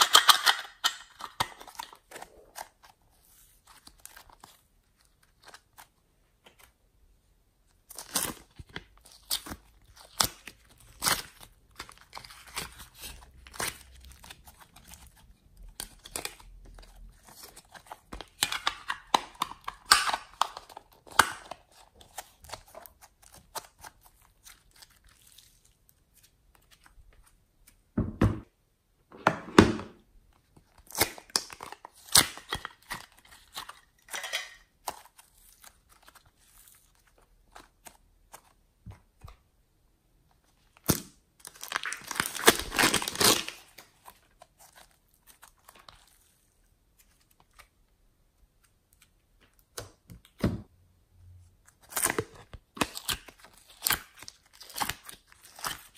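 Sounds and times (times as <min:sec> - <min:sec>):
squishing clay and slime: 0:00.0 - 0:28.9, 0:30.0 - 0:55.9.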